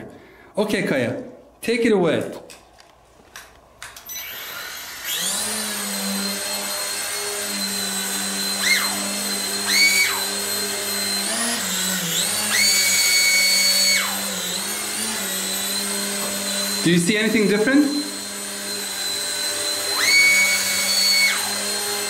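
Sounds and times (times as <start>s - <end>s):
rc helicopter rotors whirring: 4.0s - 22.0s
high motor whine: 4.1s - 22.0s.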